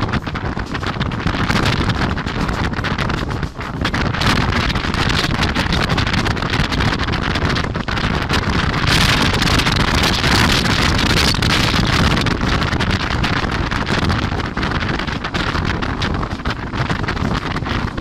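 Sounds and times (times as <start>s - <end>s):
train wheels rumbling on track: 0.0s - 18.0s
wind buffeting microphone: 0.0s - 18.0s.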